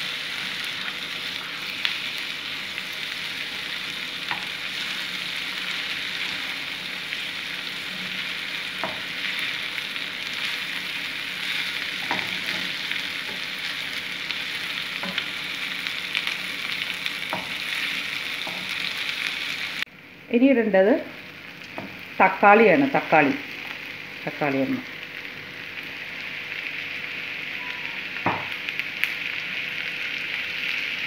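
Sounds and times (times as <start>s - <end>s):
vegetables sizzling in a frying pan: 0.0s - 31.0s.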